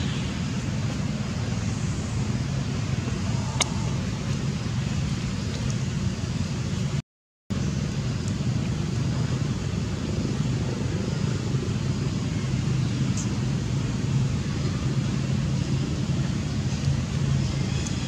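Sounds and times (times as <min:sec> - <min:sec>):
faint hum: 0:00.0 - 0:18.0
low rumbling background noise: 0:00.0 - 0:18.0.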